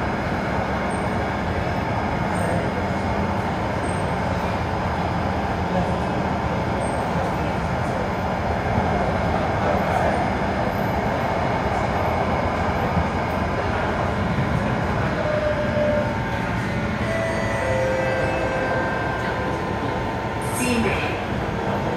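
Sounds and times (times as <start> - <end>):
metro train running rumble: 0.0 - 21.9.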